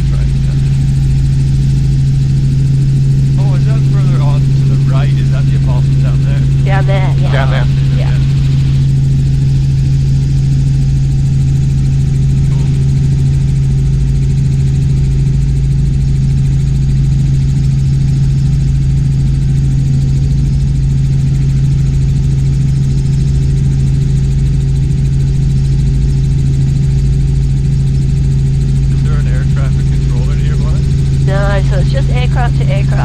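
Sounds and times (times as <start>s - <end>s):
helicopter cabin drone: 0.0s - 33.0s.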